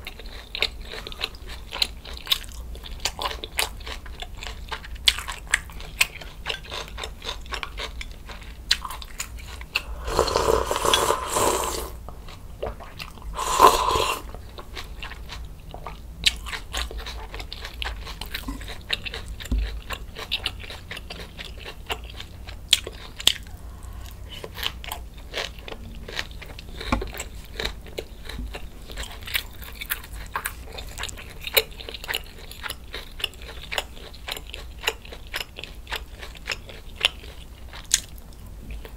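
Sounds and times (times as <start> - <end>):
chewing and crunching cabbage: 0.0 - 38.9.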